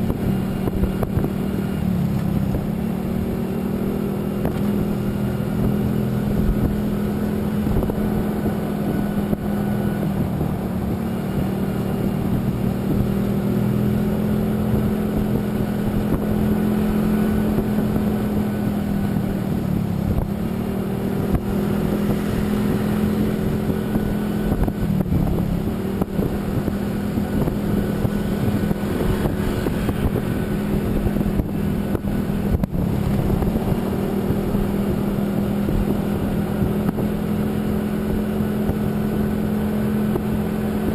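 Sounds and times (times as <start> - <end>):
road and wind noise: 0.0 - 40.9
vehicle engine cruising: 0.0 - 40.9.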